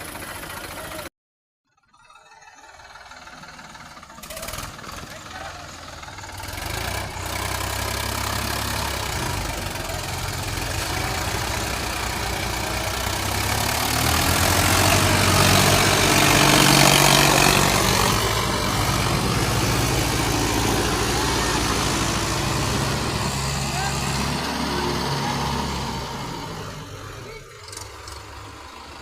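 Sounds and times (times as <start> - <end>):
tractor diesel engine revving: 0.0 - 1.1, 2.6 - 29.0.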